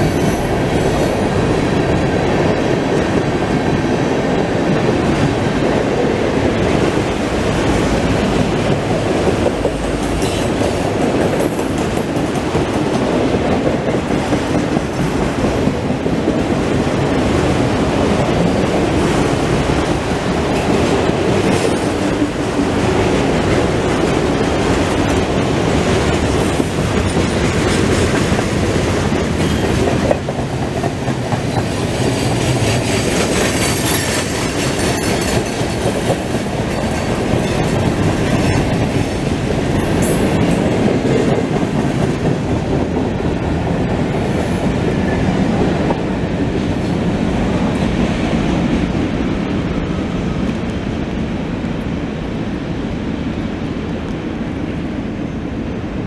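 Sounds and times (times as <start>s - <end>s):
train wheels clicking over rails: 0.0s - 52.0s
freight train cars rolling past: 0.0s - 56.0s.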